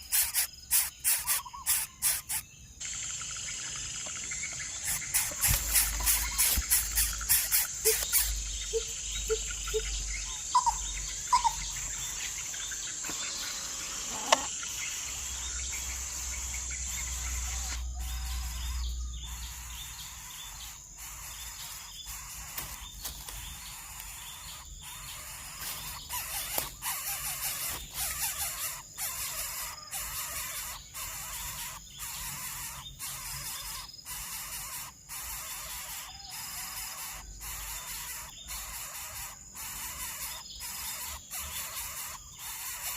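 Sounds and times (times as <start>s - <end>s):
bird chirps: 0.0s - 42.9s.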